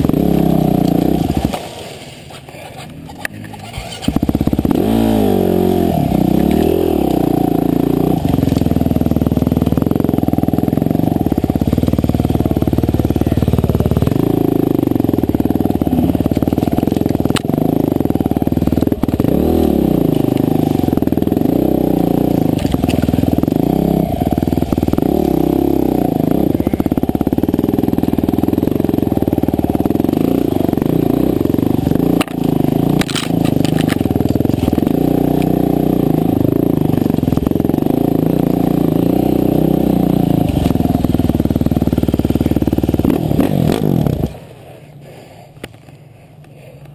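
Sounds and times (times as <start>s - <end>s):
motorbike engine revving: 0.0s - 45.3s.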